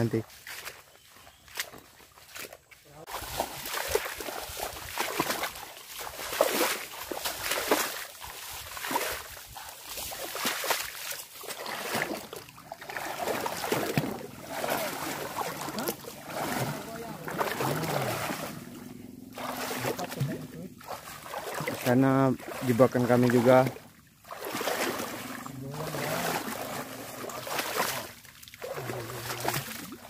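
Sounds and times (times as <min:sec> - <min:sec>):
sloshing splashes in water: 0:01.5 - 0:30.0.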